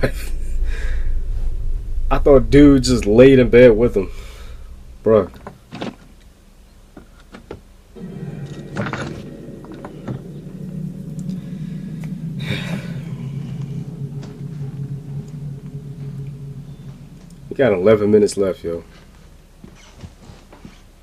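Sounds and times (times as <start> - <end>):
low film score drone: 0.0 - 6.3, 7.8 - 20.0.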